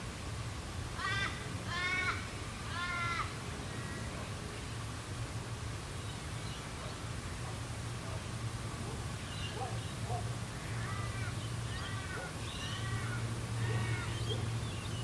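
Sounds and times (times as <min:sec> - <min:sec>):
low background hum of bush: 0:00.0 - 0:15.0.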